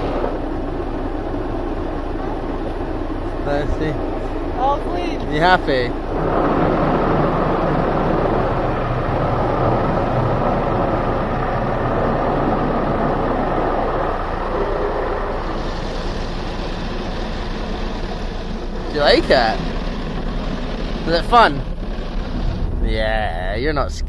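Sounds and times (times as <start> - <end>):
car wash machinery rushing: 0.0 - 24.0.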